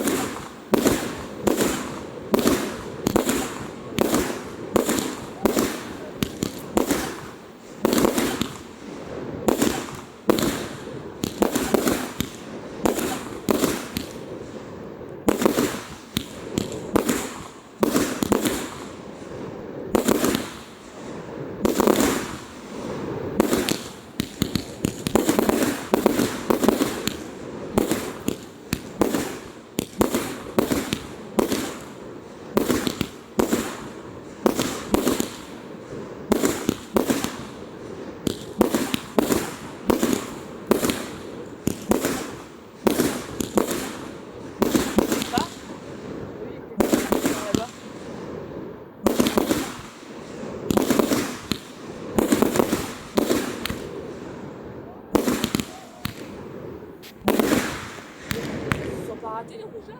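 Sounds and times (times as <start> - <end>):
fireworks bursts and crackles: 0.0 - 59.9.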